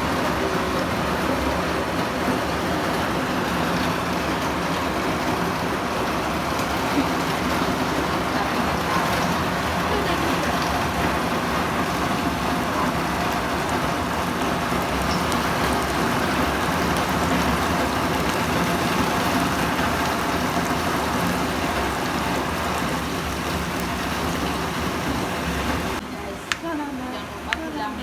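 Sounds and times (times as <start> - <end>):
food sizzling in hot oil: 0.0 - 26.6.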